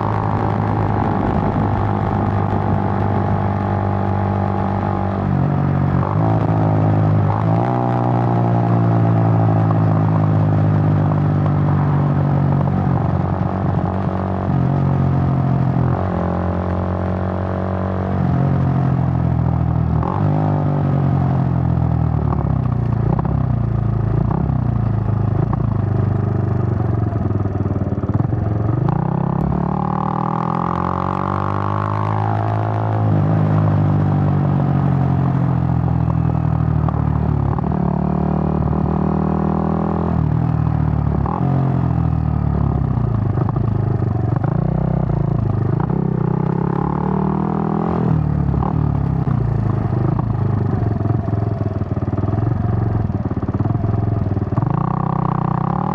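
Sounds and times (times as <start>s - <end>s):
motorcycle engine revving through gears: 0.0s - 55.9s.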